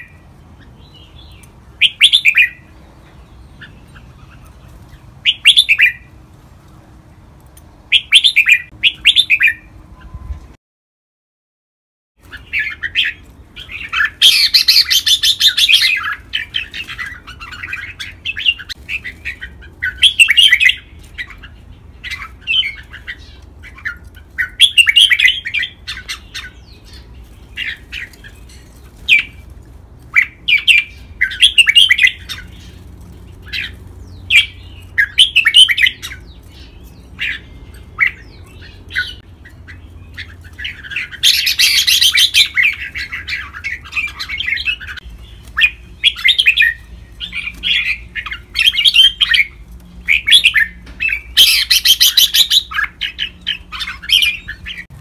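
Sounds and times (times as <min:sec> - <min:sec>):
birds singing: 0:00.0 - 0:10.5, 0:12.2 - 0:55.0.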